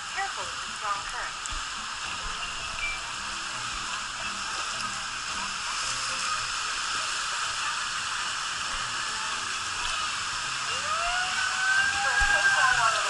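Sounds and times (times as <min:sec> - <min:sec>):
water rushing down slide: 0:00.0 - 0:13.0.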